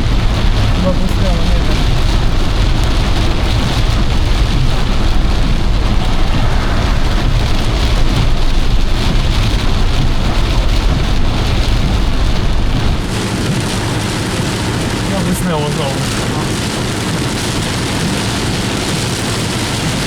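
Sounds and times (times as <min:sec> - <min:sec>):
heavy rain drumming on car roof: 0:00.0 - 0:20.0.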